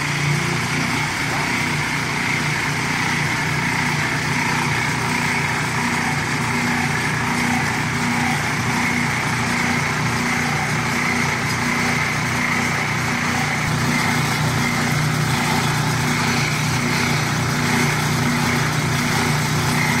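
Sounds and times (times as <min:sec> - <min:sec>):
high machine whine: 0:00.0 - 0:20.0
machinery motor hum: 0:00.0 - 0:20.0.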